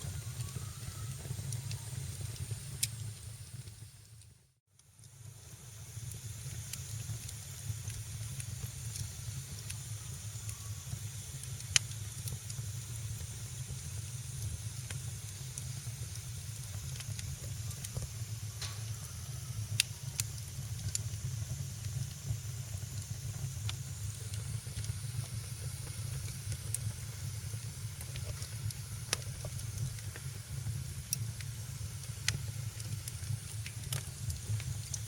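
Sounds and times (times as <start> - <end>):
wood fire crackling: 0.0 - 4.2, 4.8 - 35.0.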